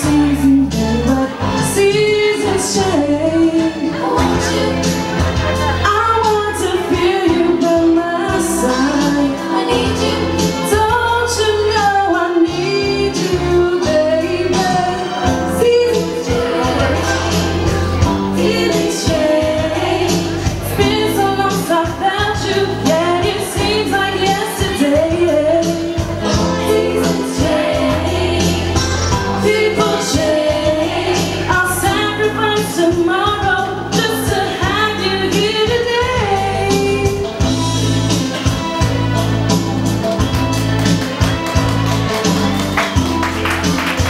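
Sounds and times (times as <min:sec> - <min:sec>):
woman singing karaoke: 0:00.0 - 0:37.8
recorded backing track: 0:00.0 - 0:44.0.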